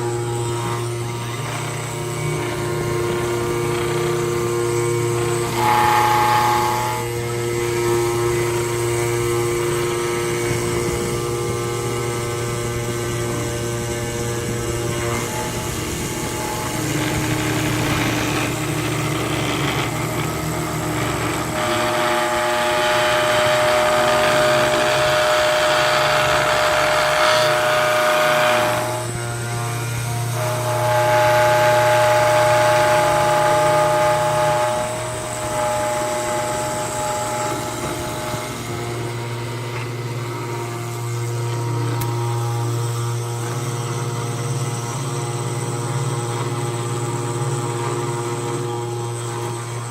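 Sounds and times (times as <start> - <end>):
high motor whine: 0.0 - 49.9
machine motors humming: 0.0 - 49.9.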